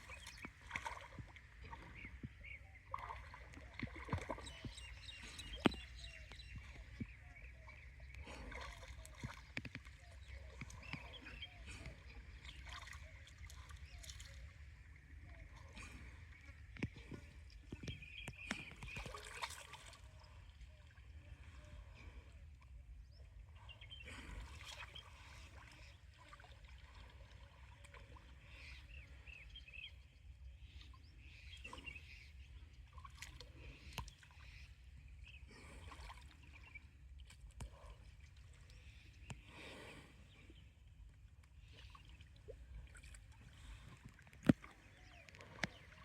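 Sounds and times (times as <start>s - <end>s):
water sloshing and splashing: 0.0s - 22.4s, 23.4s - 29.2s, 32.8s - 46.0s.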